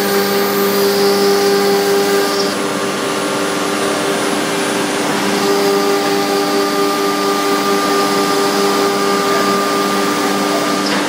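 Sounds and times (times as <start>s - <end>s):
router spindle whining: 0.0s - 11.0s.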